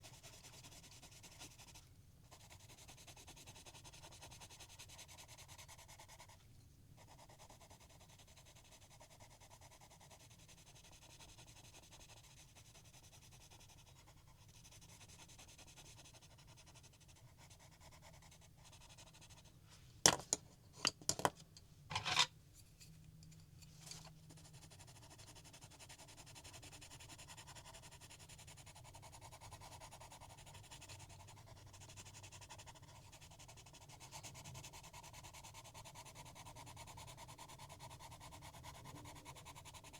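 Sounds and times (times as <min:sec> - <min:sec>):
pencil shading on paper: 0:00.0 - 0:06.4, 0:07.0 - 0:19.5, 0:24.3 - 0:39.9.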